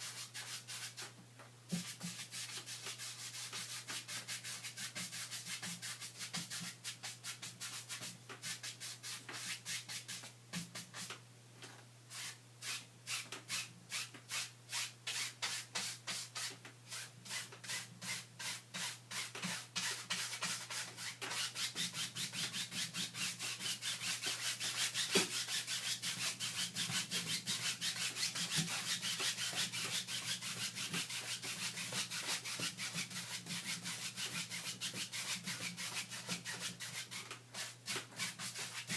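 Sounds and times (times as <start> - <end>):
rubbing strokes on a surface: 0.0 - 11.2, 12.1 - 38.9.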